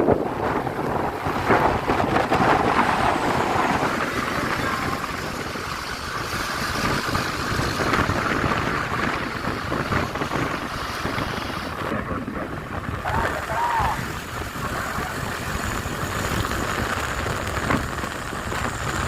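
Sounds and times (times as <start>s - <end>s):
road traffic passing: 0.0s - 19.0s
wind buffeting microphone: 0.0s - 19.0s.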